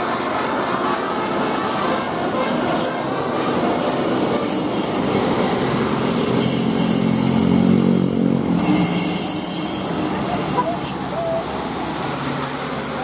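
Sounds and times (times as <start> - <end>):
bus diesel engine passing: 0.0 - 13.0
road traffic: 0.0 - 13.0.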